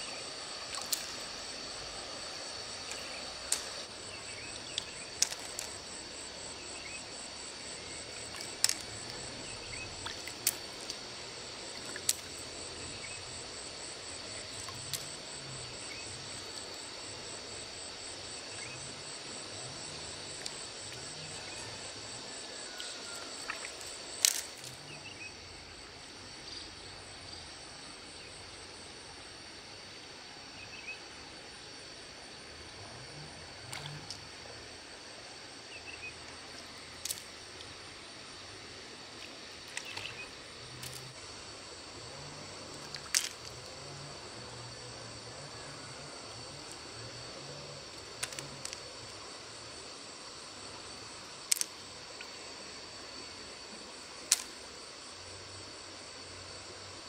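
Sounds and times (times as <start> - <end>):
insects chirring: 0.0 - 57.0
outdoor hiss: 0.0 - 57.0.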